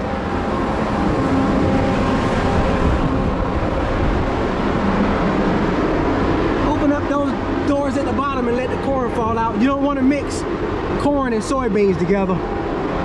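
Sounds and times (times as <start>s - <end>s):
grain dryer droning: 0.0s - 13.0s.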